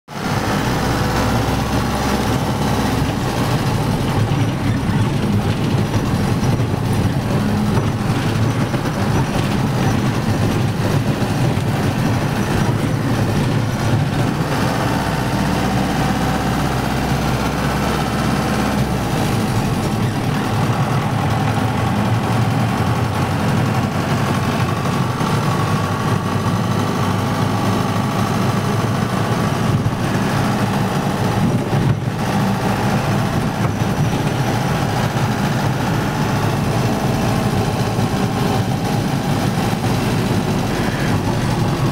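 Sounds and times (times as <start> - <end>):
loud vehicle rumble: 0.1 - 41.9.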